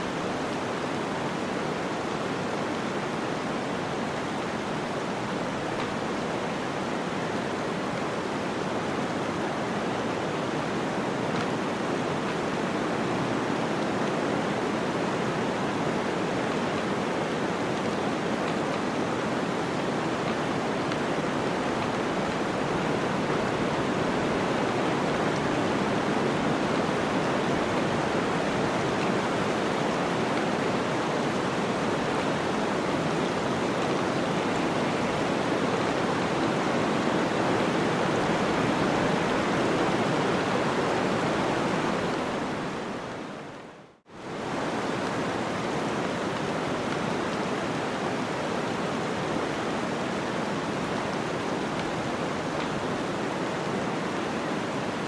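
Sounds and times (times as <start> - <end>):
rushing blizzard wind: 0.0 - 55.0.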